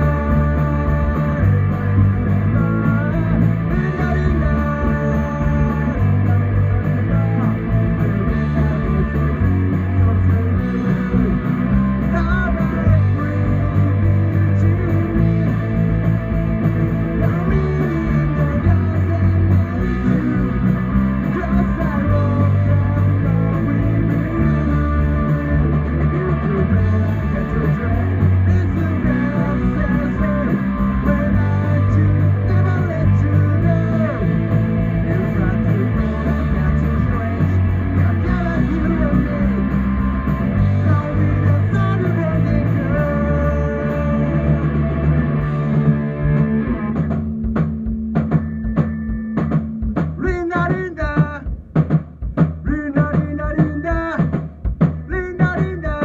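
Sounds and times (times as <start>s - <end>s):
person singing: 0.0s - 47.0s, 50.2s - 51.5s, 52.7s - 54.4s, 55.0s - 56.0s
rock band playing: 0.0s - 56.0s.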